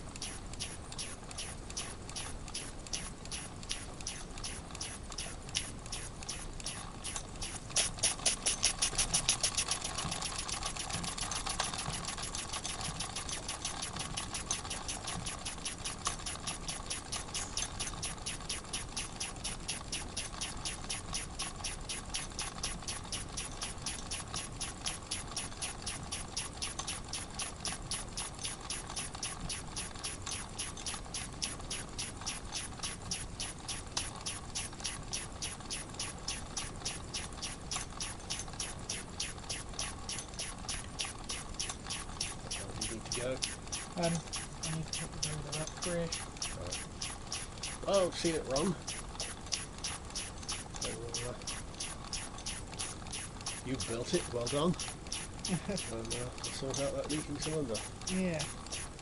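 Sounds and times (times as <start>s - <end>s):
model steam engine chuffing: 0.0s - 59.0s.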